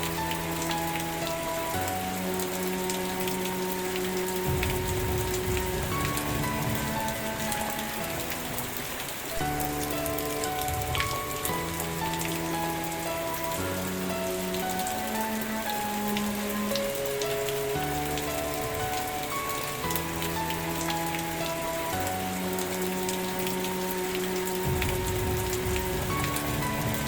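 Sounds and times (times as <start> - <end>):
raindrop taps: 0.0 - 27.0
soft music of held chords: 0.0 - 27.0
steady rain: 0.0 - 27.0.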